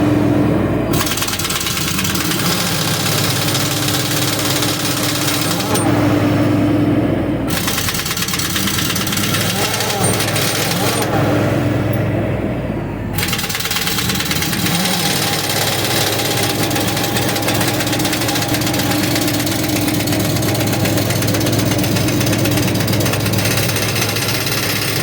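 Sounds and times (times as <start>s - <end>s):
truck engine running: 0.0s - 25.0s
air impact wrench hammering: 0.9s - 6.4s, 7.5s - 11.3s, 13.2s - 25.0s.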